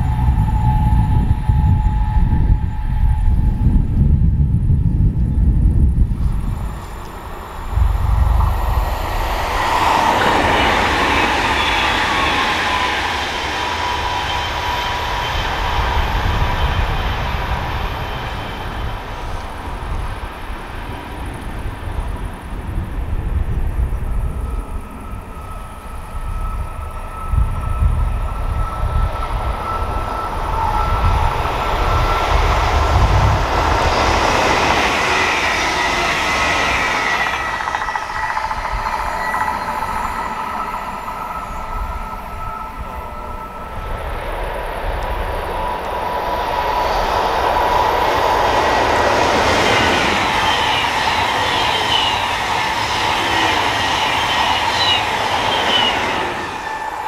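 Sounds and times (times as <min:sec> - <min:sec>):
high whine: 0:00.0 - 0:57.0
train wheel and rail noise: 0:00.0 - 0:57.0.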